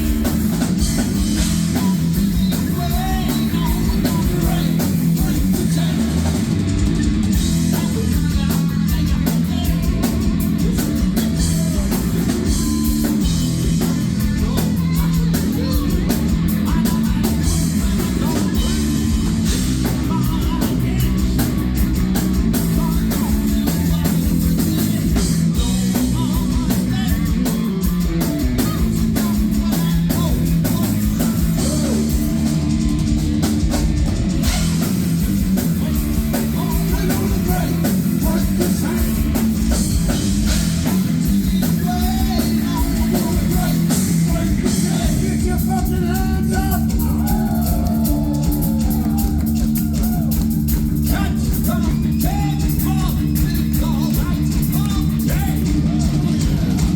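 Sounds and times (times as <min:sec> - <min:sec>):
bass guitar: 0:00.0 - 0:56.9
distorted electric guitars: 0:00.0 - 0:56.9
drum kit: 0:00.0 - 0:56.9.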